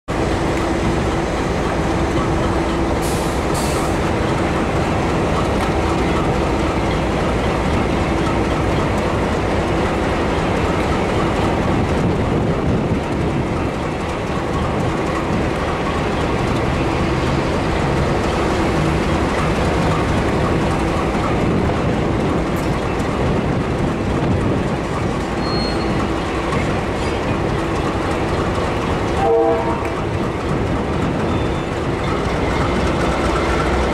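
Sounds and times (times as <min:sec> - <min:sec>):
locomotive engine drone: 0:00.1 - 0:33.9.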